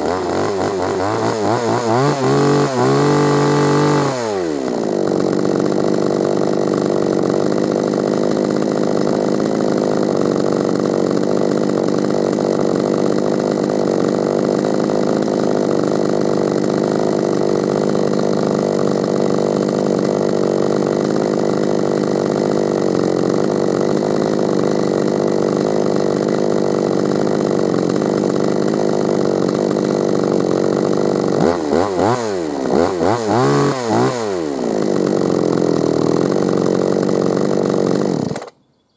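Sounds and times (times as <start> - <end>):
chainsaw revving: 0.0 - 38.7.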